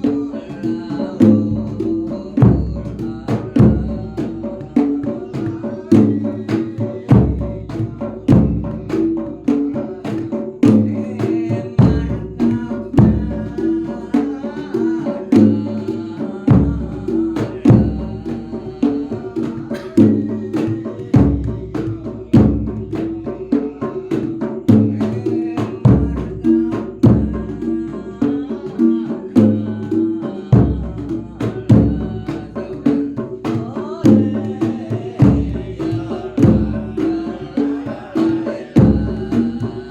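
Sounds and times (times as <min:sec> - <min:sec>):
faster drum strokes: 0:00.0 - 0:39.9.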